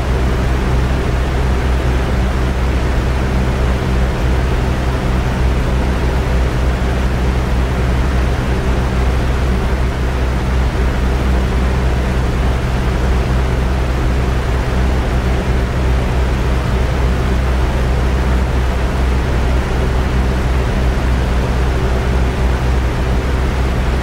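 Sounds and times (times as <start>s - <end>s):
white noise with low rumble: 0.0s - 24.0s.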